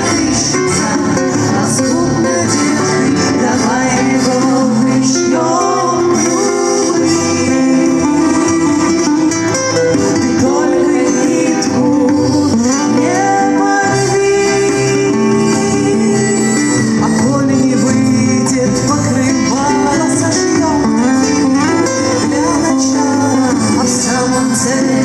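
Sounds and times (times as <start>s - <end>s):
acoustic guitar: 0.0s - 25.0s.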